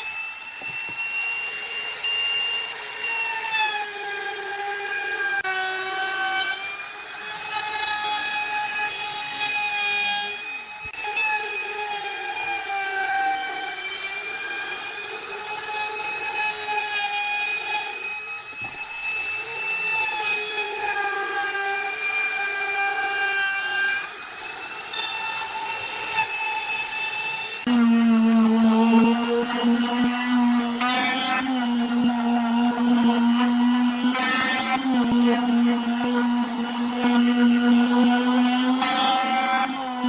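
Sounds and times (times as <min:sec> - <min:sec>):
power tool cutting wood: 0:00.0 - 0:40.0.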